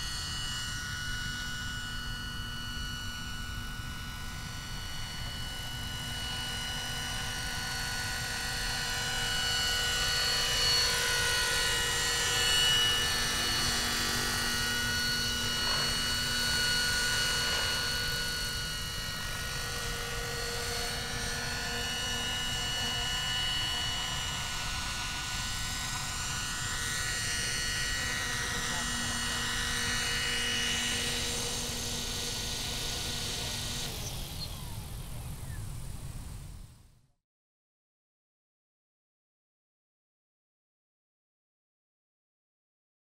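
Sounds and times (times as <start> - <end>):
helicopter rotors: 0.0 - 36.9
model helicopter motor whine: 0.0 - 37.2.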